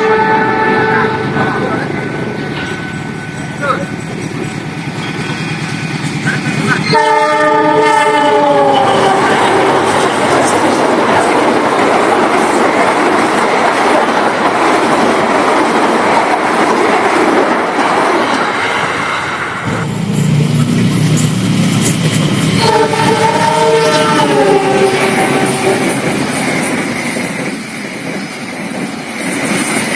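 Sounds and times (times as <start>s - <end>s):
train passing at speed: 0.0s - 29.9s.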